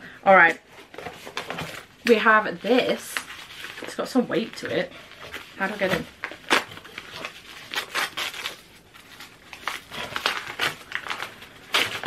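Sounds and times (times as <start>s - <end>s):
wrapping paper crinkling: 0.8s - 12.0s.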